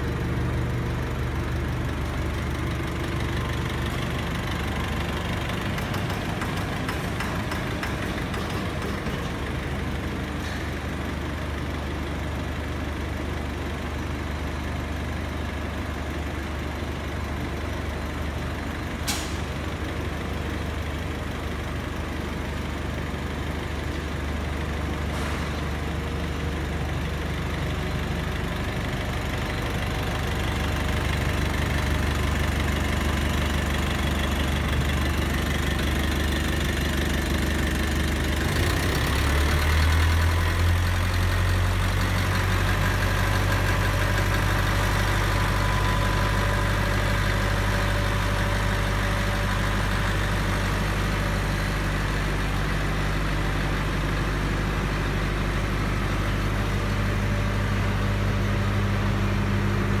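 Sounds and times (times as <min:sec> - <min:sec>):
diesel generator running: 0:00.0 - 1:00.0.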